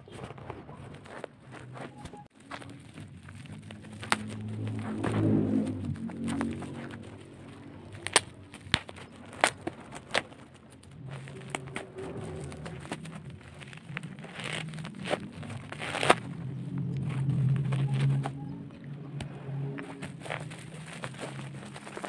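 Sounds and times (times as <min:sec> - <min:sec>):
packaging crinkling: 0:00.8 - 0:18.4, 0:19.8 - 0:22.0.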